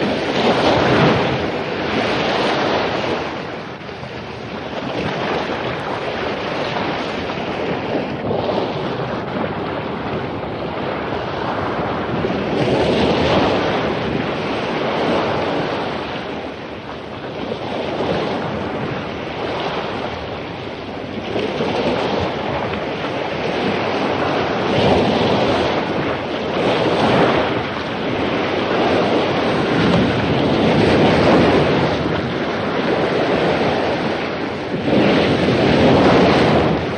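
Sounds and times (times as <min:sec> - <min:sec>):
ocean waves crashing on beach: 0:00.0 - 0:36.9.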